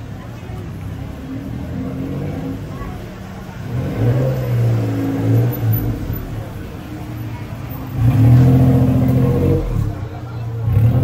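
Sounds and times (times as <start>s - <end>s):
vehicle engines passing by: 0.0s - 11.0s.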